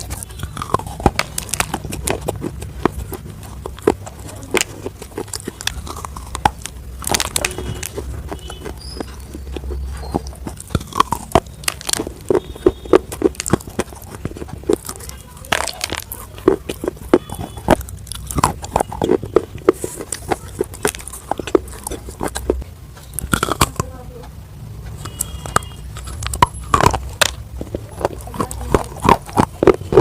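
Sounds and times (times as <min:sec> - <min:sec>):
chewing crunchy food: 0:00.0 - 0:30.0.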